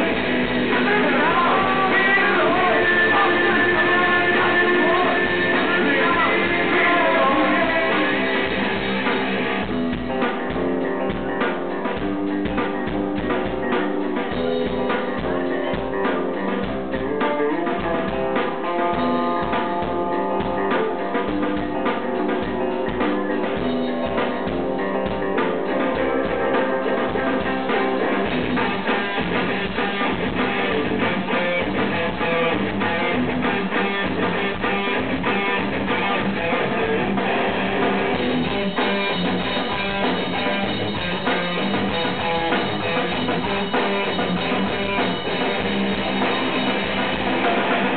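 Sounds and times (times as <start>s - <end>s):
rock band playing live: 0.0s - 47.9s.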